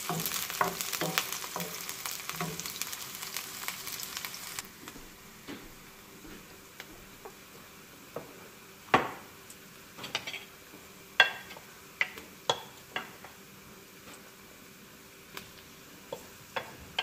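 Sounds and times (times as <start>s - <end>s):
onion sizzling in a pan: 0.0s - 17.0s.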